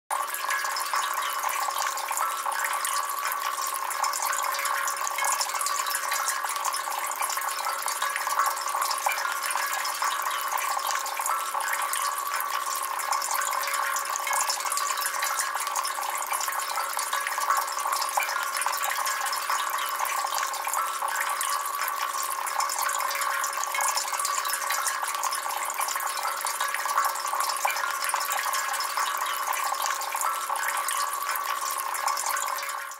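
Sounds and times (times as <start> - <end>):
fountain water trickling and splashing: 0.1 - 32.9.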